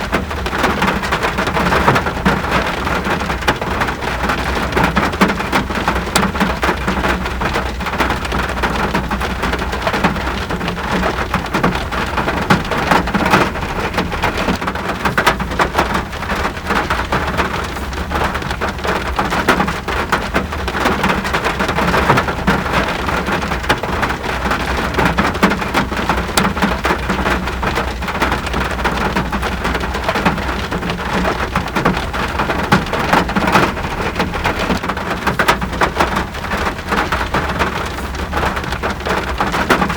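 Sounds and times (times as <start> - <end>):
heavy rain: 0.0 - 39.9
raindrop hits: 0.0 - 39.9.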